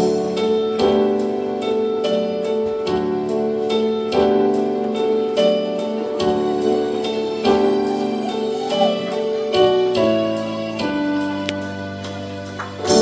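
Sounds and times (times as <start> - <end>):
keyboard sustained chords: 0.0 - 13.0.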